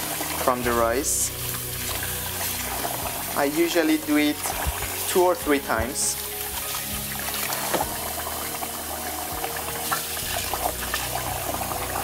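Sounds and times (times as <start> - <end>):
hands swirling rice in water: 0.0 - 12.0
tap water running into pot: 0.0 - 12.0.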